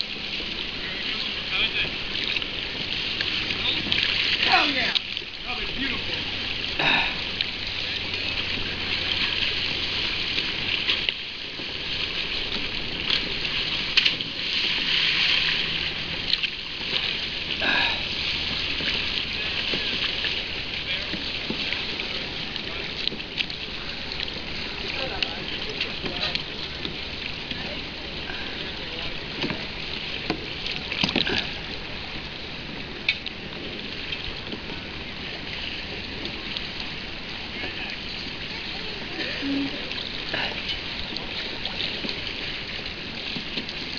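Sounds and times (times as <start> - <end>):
paddle splashes and knocks: 0.0 - 43.9
sea water lapping against rocks: 0.0 - 43.9.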